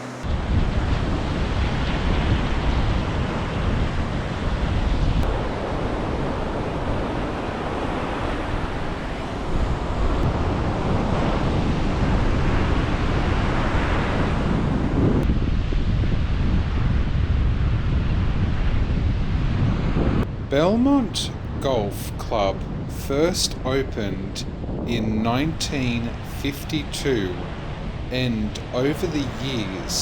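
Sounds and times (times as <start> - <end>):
ocean surf washing on beach: 0.0 - 30.0
wind rumbling on microphone: 0.2 - 26.3.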